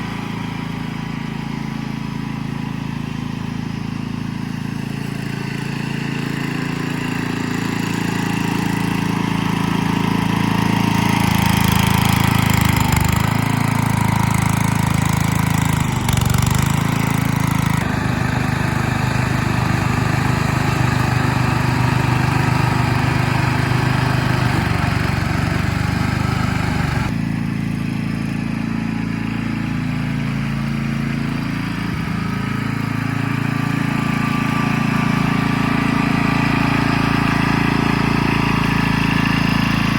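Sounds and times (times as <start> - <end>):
ride-on mower engine running: 0.0 - 39.9.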